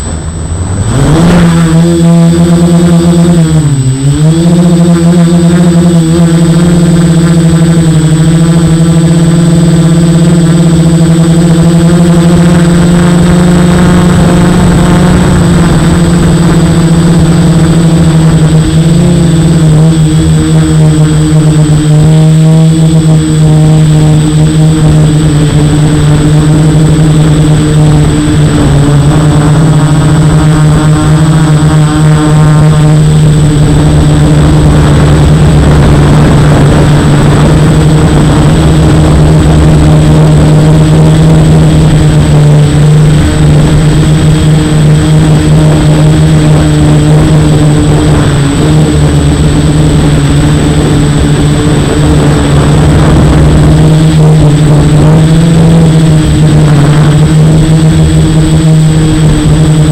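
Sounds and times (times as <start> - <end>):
quadcopter propellers buzzing: 0.0 - 59.9.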